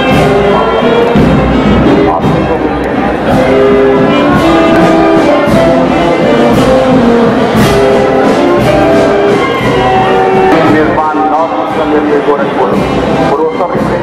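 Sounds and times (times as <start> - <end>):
brass band playing: 0.0 - 14.0
percussion strokes: 0.0 - 14.0.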